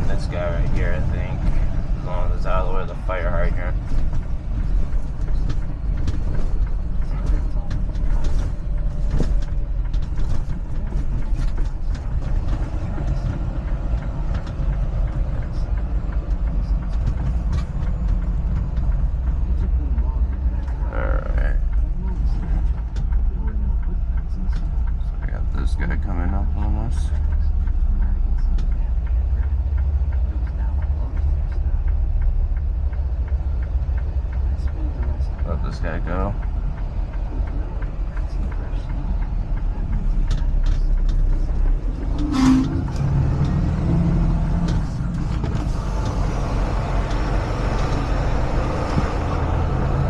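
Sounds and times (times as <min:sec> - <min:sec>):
diesel truck engine rumbling: 0:00.0 - 0:50.0
faint regular ticking: 0:00.0 - 0:50.0.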